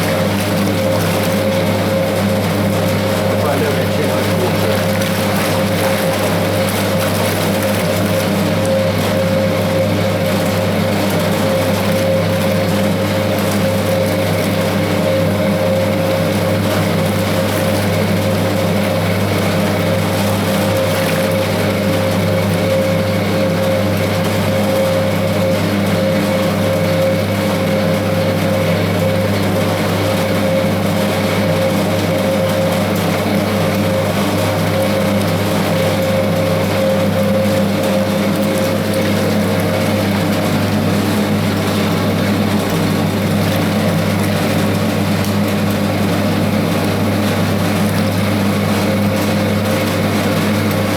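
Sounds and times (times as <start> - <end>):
washing machine motor humming: 0.0 - 50.9.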